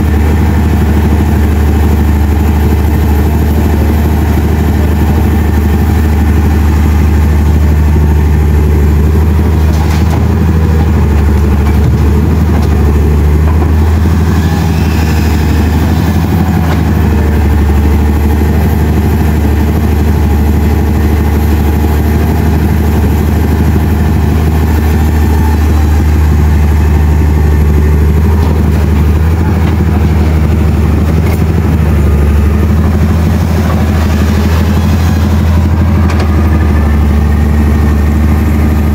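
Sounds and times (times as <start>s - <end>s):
heavy vehicle engine idling: 0.0s - 38.9s.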